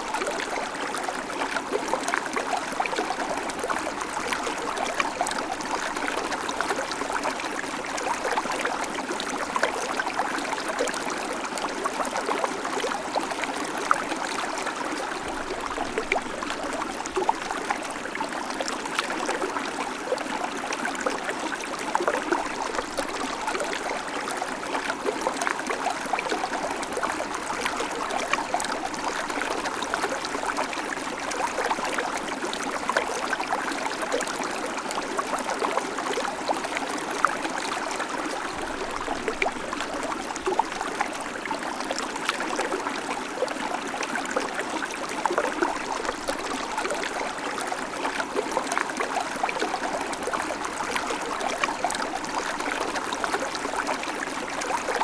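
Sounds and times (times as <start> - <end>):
creek water trickling over stones: 0.0 - 55.0.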